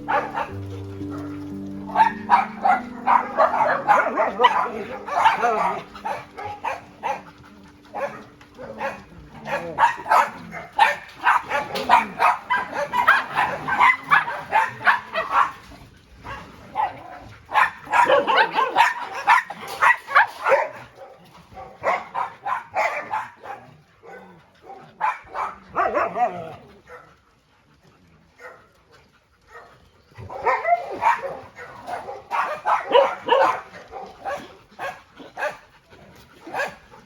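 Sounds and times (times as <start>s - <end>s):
many dogs barking and yelping: 0.0s - 37.0s.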